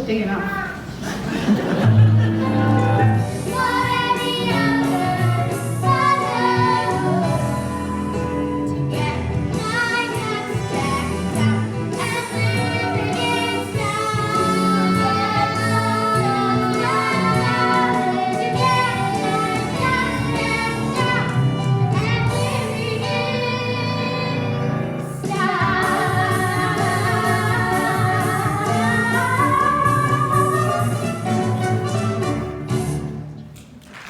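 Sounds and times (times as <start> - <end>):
show tune singing with instruments: 1.6 - 33.0.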